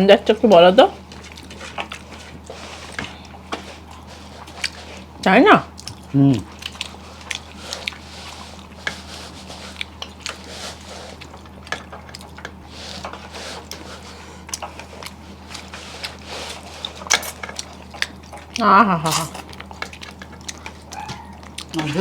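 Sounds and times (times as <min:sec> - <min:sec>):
people chewing food: 0:00.0 - 0:22.0
steady low hum: 0:00.0 - 0:22.0.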